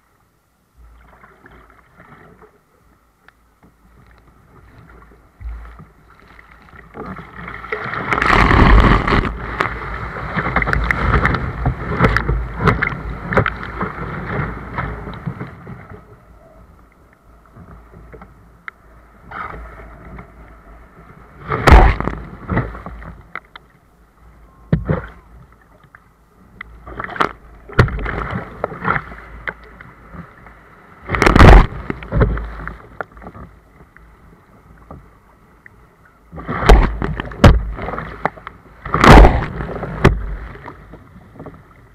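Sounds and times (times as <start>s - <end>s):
waves splashing: 3.8s - 41.9s
water rushing over kayak: 4.4s - 16.6s, 17.3s - 23.4s, 24.5s - 35.6s, 36.2s - 41.9s.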